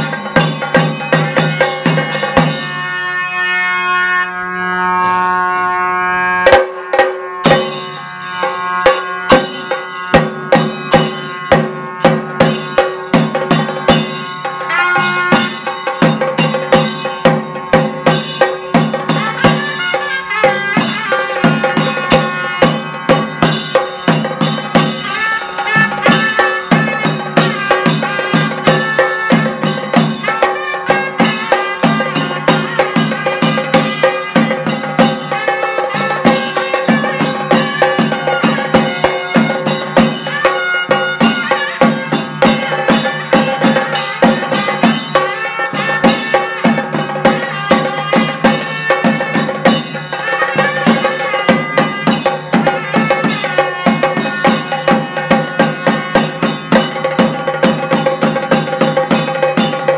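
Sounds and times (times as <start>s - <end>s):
drums beaten with sticks: 0.0s - 3.0s, 6.4s - 59.9s
wind instrument melody: 0.0s - 59.9s.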